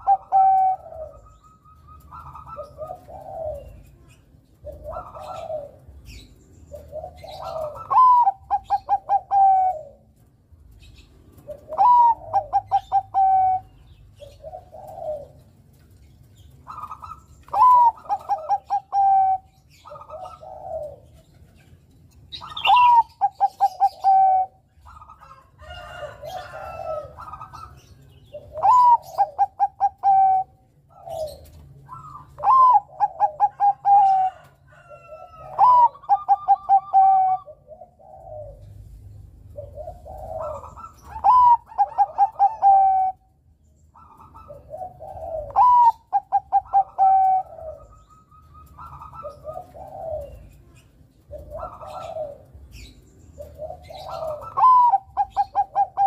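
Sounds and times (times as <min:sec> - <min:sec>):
dove cooing song: 0:00.0 - 0:56.0.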